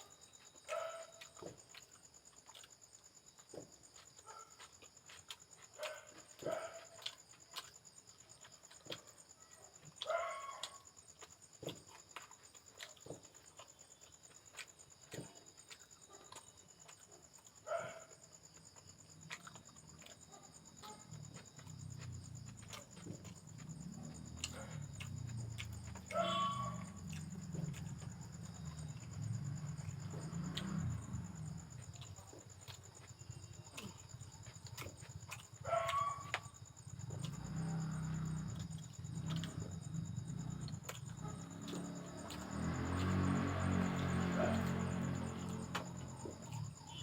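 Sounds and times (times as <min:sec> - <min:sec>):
faint chewing: 0:00.0 - 0:47.0.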